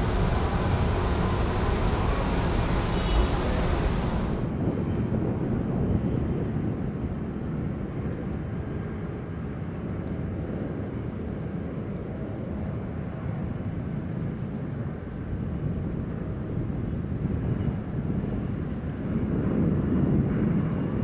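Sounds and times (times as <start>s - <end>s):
jet engines low rumble: 0.0s - 21.0s.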